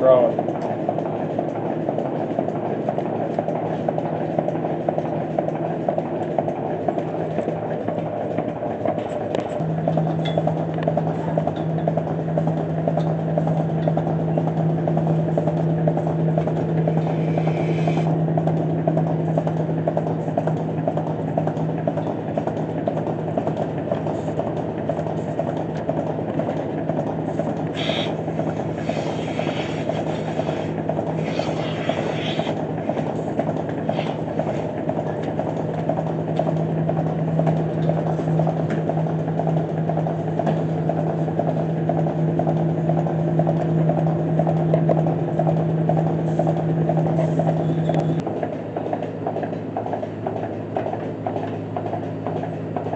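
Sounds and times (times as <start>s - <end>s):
vacuum pump humming: 0.0s - 52.9s.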